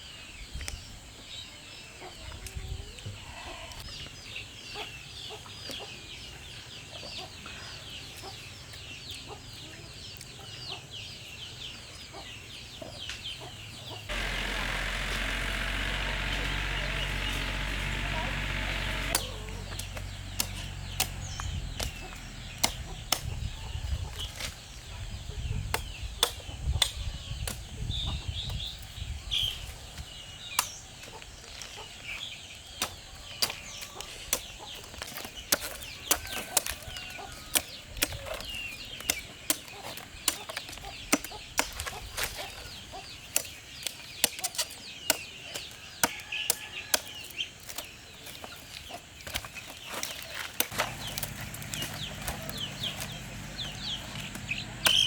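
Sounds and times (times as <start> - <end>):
chickens clucking and chirping: 0.2 - 55.0.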